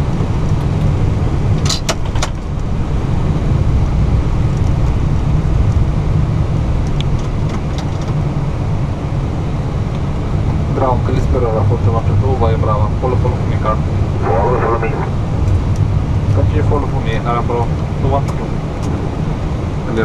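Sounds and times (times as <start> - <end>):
engines and airframe rumbling: 0.0 - 20.0.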